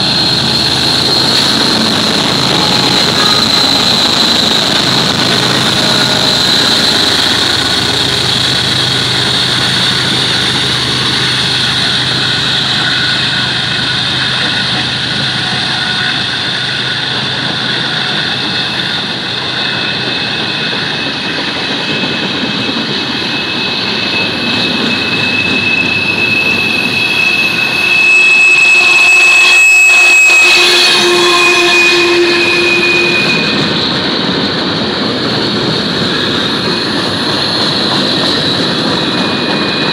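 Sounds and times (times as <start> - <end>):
diesel locomotive passing: 0.0 - 39.9
high squeal from train wheels: 0.0 - 39.9.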